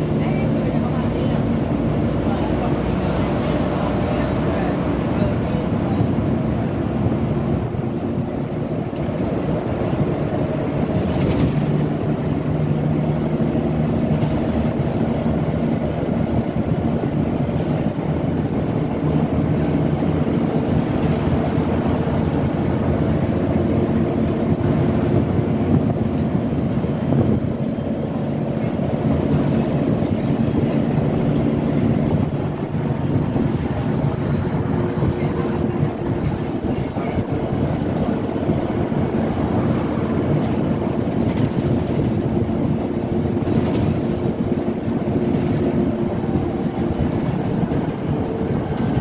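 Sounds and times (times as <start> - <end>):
bus diesel engine droning: 0.0 - 49.0
road and body noise: 0.0 - 49.0.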